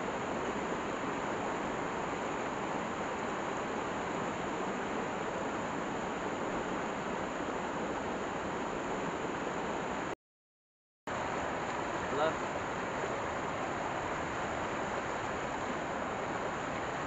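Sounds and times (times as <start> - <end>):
stream rushing over rocks: 0.0 - 10.1, 11.1 - 17.0.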